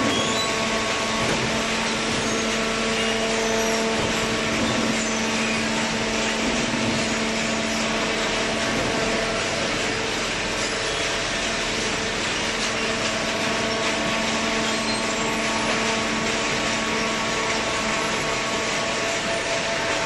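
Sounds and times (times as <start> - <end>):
baler machine hum: 0.0 - 20.0.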